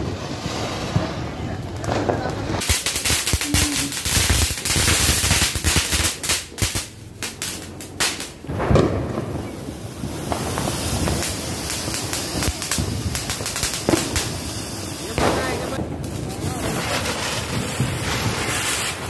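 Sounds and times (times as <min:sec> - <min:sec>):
firecrackers banging and crackling: 0:00.0 - 0:19.0
fountain firecracker hissing: 0:02.6 - 0:08.6, 0:09.2 - 0:19.0.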